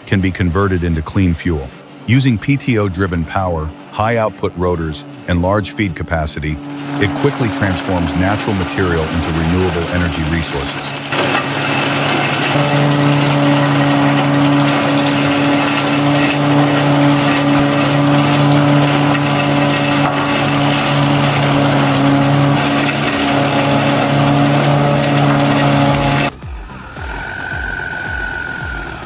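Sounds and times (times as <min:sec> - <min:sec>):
forestry mulcher rushing: 0:00.0 - 0:29.0
tractor engine high revs: 0:00.0 - 0:29.0.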